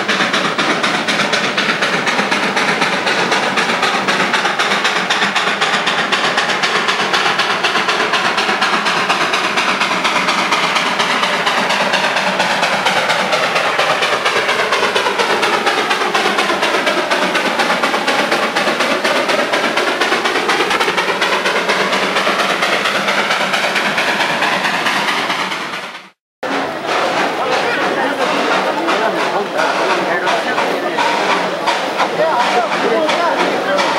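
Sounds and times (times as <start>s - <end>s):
steam locomotive chuffing: 0.0s - 33.9s.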